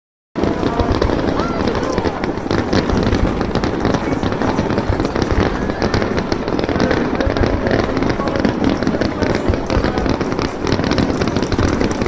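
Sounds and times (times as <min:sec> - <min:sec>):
fireworks bangs and crackles: 0:00.4 - 0:12.0.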